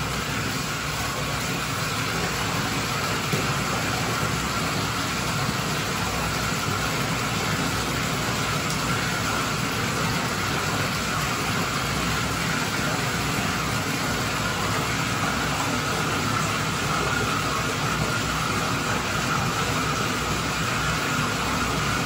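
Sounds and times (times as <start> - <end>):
water running into bathtub: 0.0 - 22.0.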